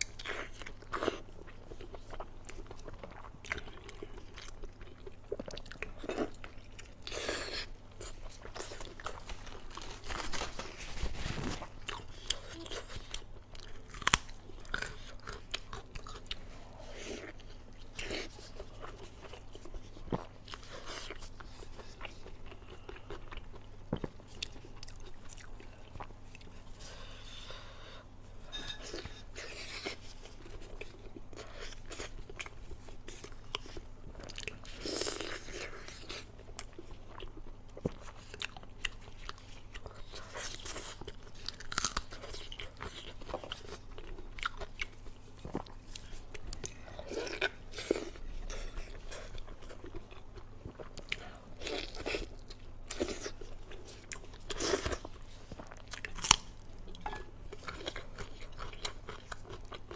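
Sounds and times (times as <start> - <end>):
crunching and chewing: 0.0 - 59.9
low electrical hum: 0.0 - 59.9.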